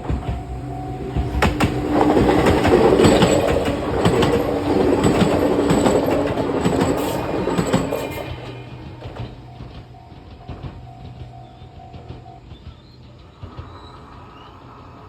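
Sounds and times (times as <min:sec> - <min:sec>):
crossing warning bell ringing: 0:00.0 - 0:13.1
electric train passing: 0:00.0 - 0:15.0
train wheels clicking over rail joints: 0:00.0 - 0:15.0.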